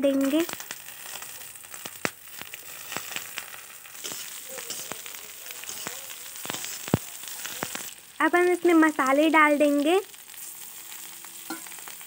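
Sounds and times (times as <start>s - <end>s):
peas sizzling in hot oil: 0.0s - 12.0s.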